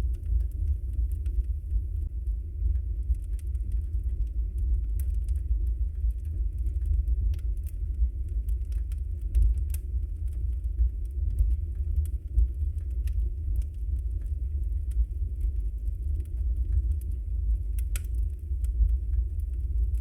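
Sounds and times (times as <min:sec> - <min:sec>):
crackles and pops of burning logs: 0:00.0 - 0:20.0
wood fire rumbling: 0:00.0 - 0:20.0.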